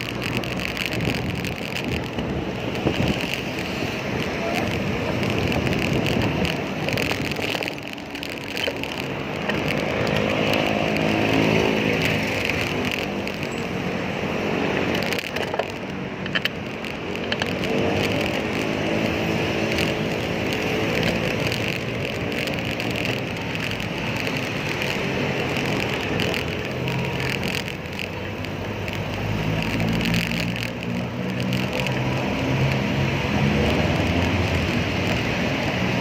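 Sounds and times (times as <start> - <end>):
road and wind noise: 0.0 - 36.0
vehicles passing: 0.0 - 36.0.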